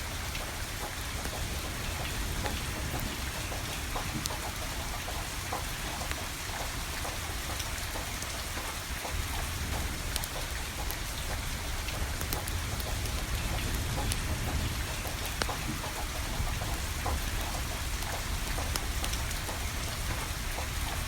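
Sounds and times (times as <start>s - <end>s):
firewood crackling and popping: 0.0s - 21.0s
rain falling: 0.0s - 21.0s.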